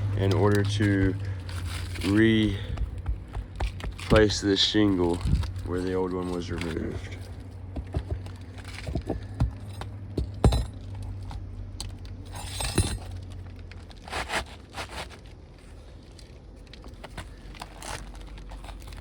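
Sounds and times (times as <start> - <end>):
shingles scraping and crackling: 0.0 - 11.4, 12.1 - 19.0.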